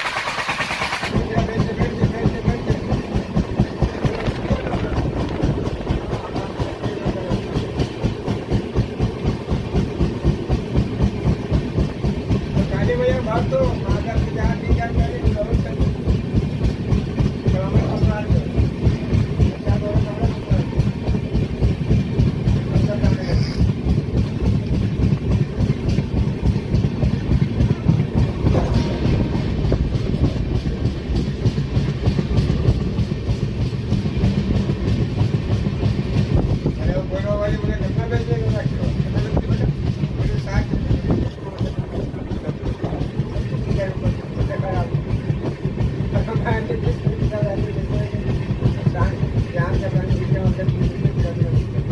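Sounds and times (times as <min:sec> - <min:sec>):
train rumble: 0:00.0 - 0:51.9
wheels knocking on track: 0:00.0 - 0:51.9.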